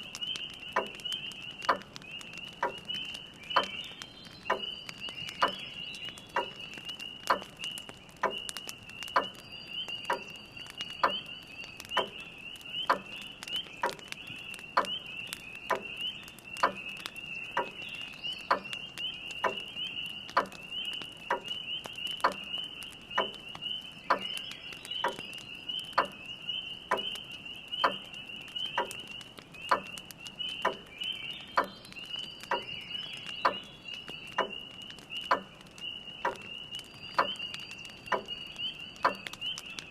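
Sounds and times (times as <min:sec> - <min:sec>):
spring peepers chorus: 0:00.0 - 0:39.9
wood fire crackling: 0:00.0 - 0:39.9.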